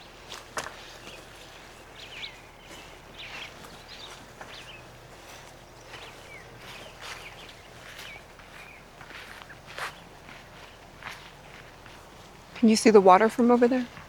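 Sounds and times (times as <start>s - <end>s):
birds chirping: 0.0s - 14.0s
soft footsteps on trail: 0.0s - 14.0s.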